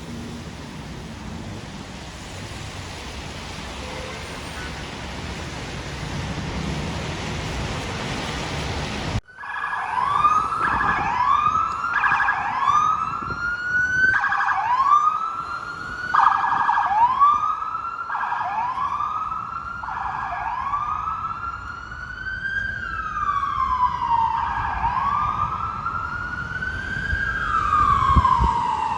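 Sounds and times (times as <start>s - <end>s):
emergency vehicle siren sweeping: 0.0s - 28.9s.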